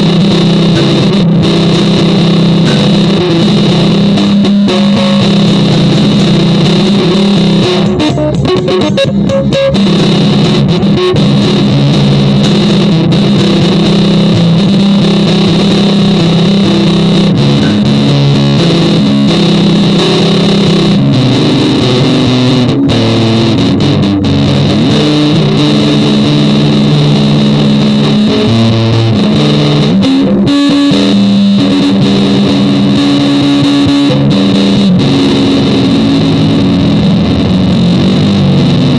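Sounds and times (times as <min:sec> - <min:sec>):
distorted electric guitar drone: 0:00.0 - 0:38.9.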